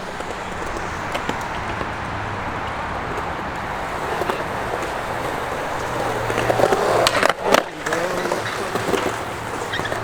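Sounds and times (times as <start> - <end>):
skateboard wheels rolling on concrete: 0.0 - 10.0.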